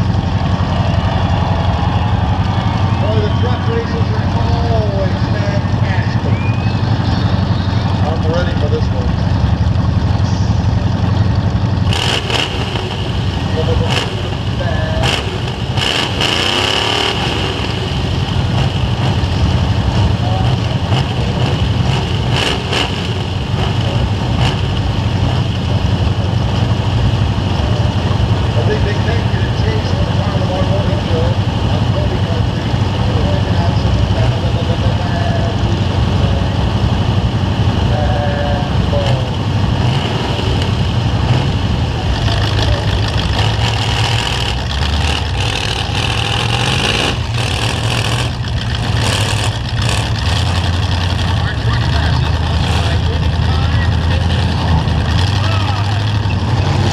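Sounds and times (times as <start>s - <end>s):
truck engines running rough: 0.0s - 56.9s.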